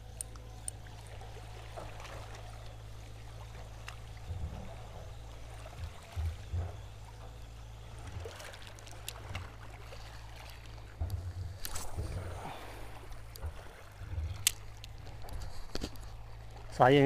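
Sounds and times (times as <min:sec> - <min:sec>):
sea water sloshing and splashing: 0:00.0 - 0:17.0
steady low rumble: 0:00.0 - 0:17.0.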